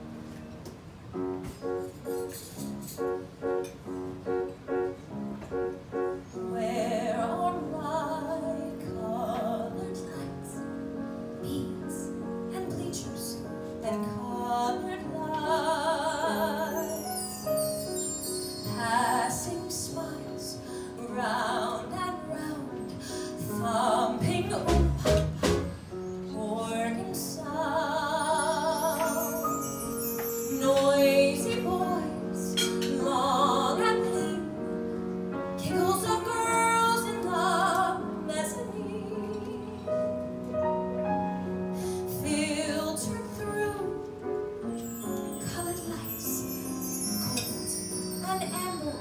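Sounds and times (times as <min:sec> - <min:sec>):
piano accompaniment: 0:00.0 - 0:49.0
woman singing a ballad: 0:06.3 - 0:40.6, 0:41.7 - 0:49.0.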